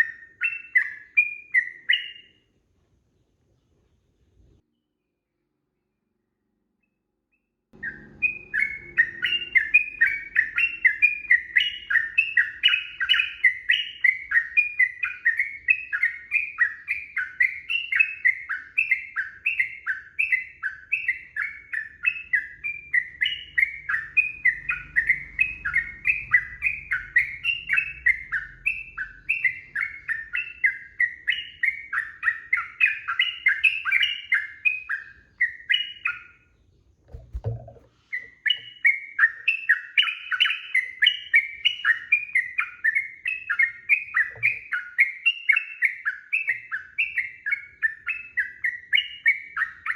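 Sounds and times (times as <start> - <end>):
bird singing bubbling notes: 7.8 - 36.5, 37.1 - 49.9.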